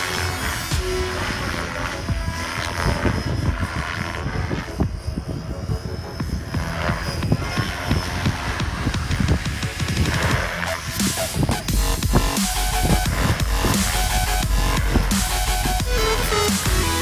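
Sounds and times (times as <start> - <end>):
model helicopter rotor and motor: 0.0 - 17.0
wind rumble on microphone: 0.0 - 17.0.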